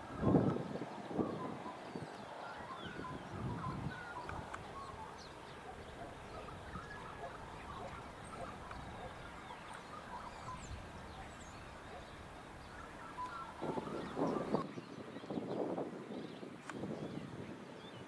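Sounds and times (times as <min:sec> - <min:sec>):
faint low background noise: 0:00.0 - 0:18.0
small birds chirping: 0:00.0 - 0:18.0.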